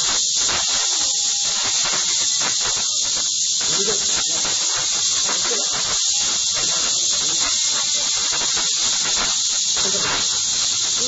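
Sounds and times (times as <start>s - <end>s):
faint indistinct sounds: 0.0s - 11.0s
steady recording hiss: 0.0s - 11.0s.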